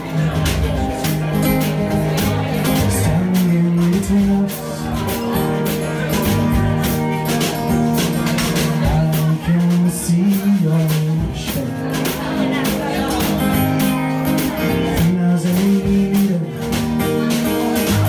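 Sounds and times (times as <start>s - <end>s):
acoustic guitar: 0.0s - 18.0s
drum kit with cymbals: 0.0s - 18.0s
keyboard playing: 0.0s - 18.0s
man singing: 0.0s - 18.0s.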